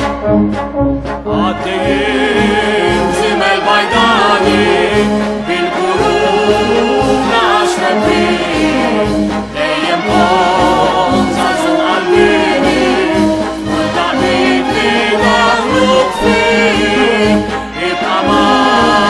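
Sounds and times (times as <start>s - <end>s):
wind band playing: 0.0s - 19.0s
voices singing with vibrato: 1.2s - 19.0s.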